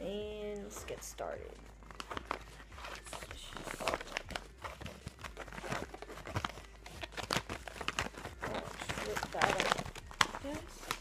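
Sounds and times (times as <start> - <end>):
paper mailer crinkling and tearing: 1.7 - 11.0.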